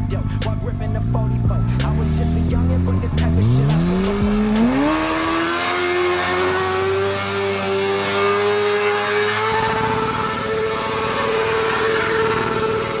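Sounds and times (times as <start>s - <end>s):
motorcycle engine at high revs: 0.4s - 13.0s.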